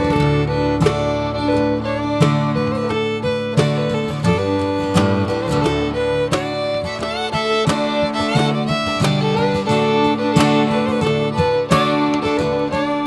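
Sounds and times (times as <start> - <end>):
country bluegrass tune: 0.0 - 13.0
fiddle melody: 0.0 - 13.0
plucked guitar: 0.0 - 13.0.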